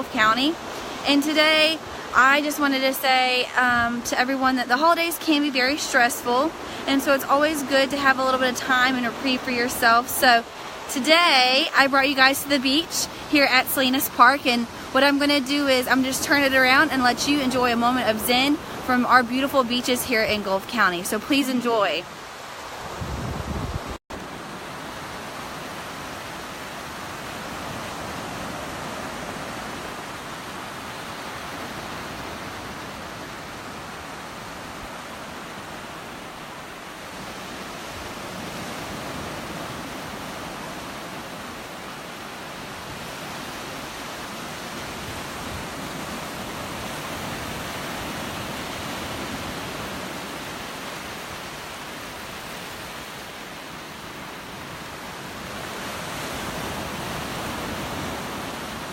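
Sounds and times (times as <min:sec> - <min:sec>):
waves washing onto beach: 0:00.0 - 0:58.9.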